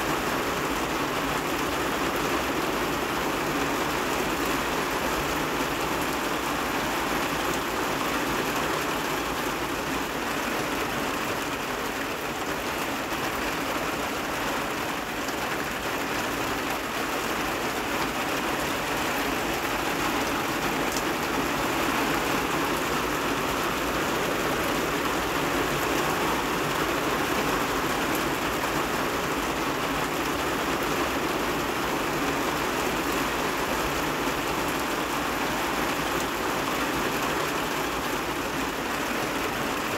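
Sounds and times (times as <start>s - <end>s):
heavy rain on a rooftop: 0.0s - 39.9s.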